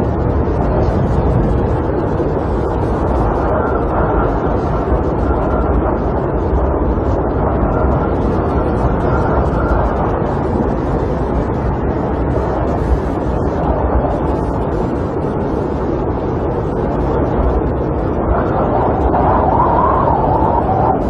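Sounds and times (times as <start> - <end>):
snowstorm wind rushing: 0.0 - 21.0.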